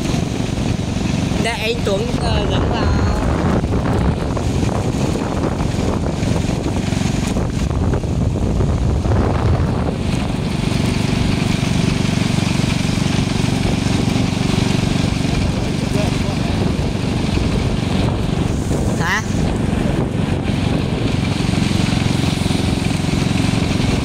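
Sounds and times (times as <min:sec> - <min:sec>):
motorbike engine: 0:00.0 - 0:24.0
wind rushing over microphone: 0:00.0 - 0:24.0.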